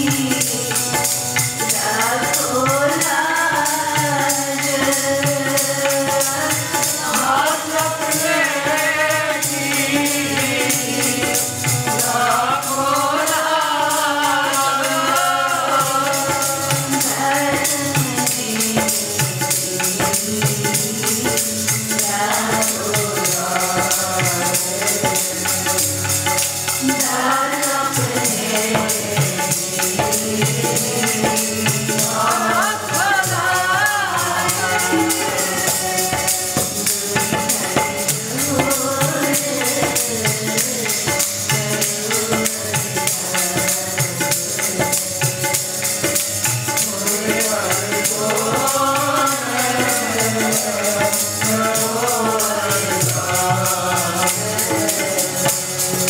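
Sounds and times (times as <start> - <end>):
woman singing: 0.0 - 25.7, 26.6 - 45.6, 46.7 - 55.9
harmonium: 0.0 - 56.0
tabla: 0.0 - 56.0.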